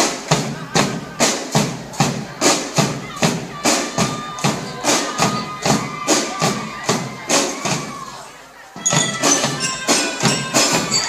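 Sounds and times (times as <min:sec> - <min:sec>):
steady percussion beat: 0:00.0 - 0:11.0.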